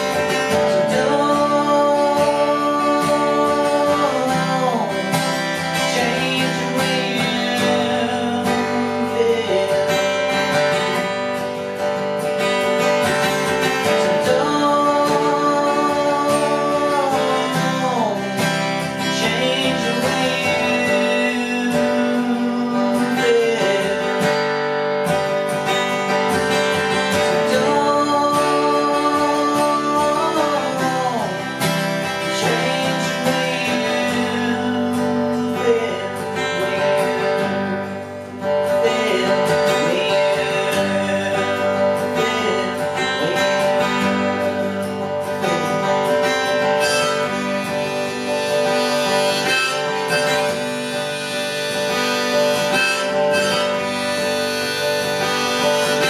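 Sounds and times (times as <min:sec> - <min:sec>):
acoustic guitar strumming: 0:00.0 - 0:56.0
harmonica playing: 0:00.0 - 0:56.0.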